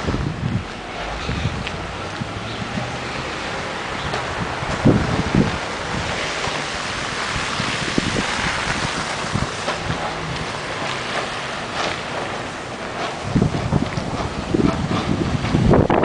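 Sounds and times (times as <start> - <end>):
street noise: 0.0 - 16.0
wind buffeting microphone: 0.0 - 16.0.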